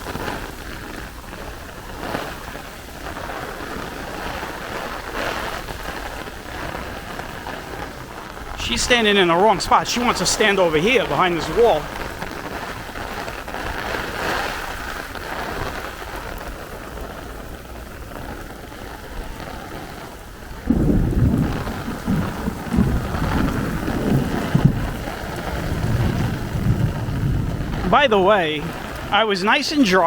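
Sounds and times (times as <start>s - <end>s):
heavy rain pouring: 0.0s - 30.0s
thunder rumbling: 0.0s - 30.0s.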